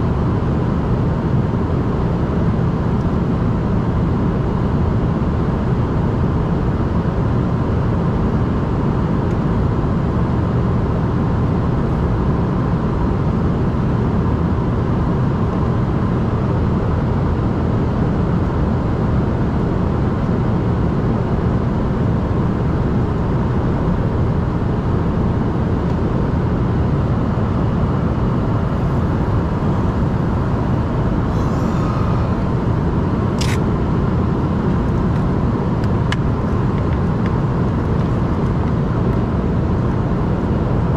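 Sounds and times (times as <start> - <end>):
faint steady whine: 0.0 - 40.9
jet cabin engine rush: 0.0 - 40.9.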